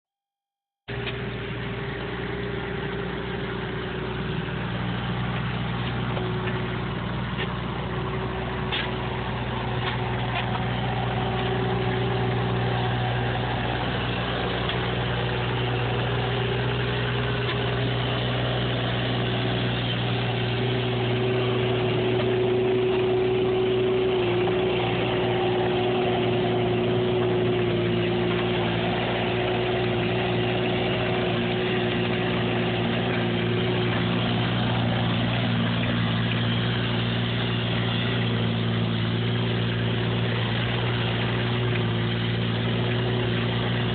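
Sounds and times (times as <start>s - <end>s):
excavator diesel engine running: 0.9s - 43.9s.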